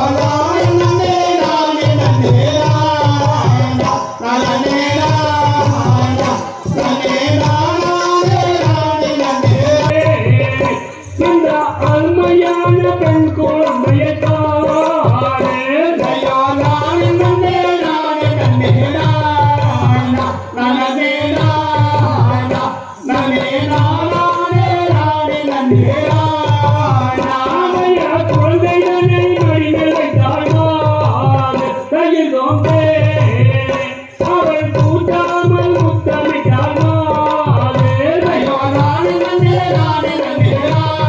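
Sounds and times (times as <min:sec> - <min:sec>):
steady drum beat: 0:00.0 - 0:41.0.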